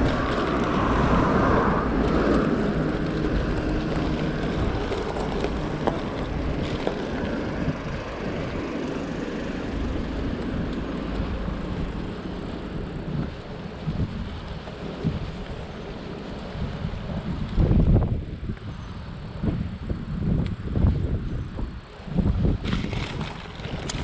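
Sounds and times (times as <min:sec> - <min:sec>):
bike road rumble: 0:00.0 - 0:24.0
motor vehicle noise: 0:00.0 - 0:24.0
wind buffeting microphone: 0:00.0 - 0:24.0.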